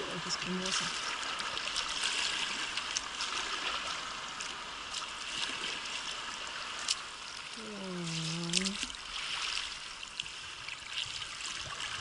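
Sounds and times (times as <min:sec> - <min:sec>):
river water rushing: 0:00.0 - 0:12.0
water splashes and drips: 0:00.0 - 0:12.0.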